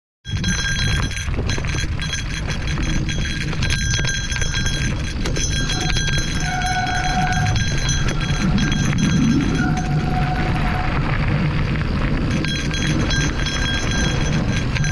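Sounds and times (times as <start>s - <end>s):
high ringing: 0.3s - 11.0s, 12.2s - 14.9s
wind on microphone: 0.3s - 14.9s.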